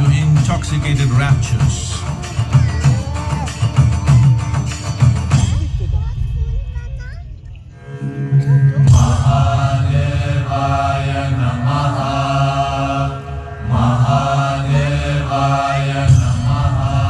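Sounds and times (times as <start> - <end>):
voices chanting: 0.0 - 5.6, 8.4 - 17.0
steady low drone: 0.0 - 17.0.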